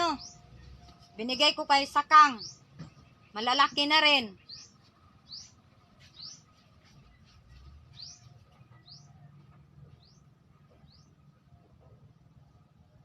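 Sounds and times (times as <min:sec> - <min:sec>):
bird chirping: 0:00.0 - 0:11.7.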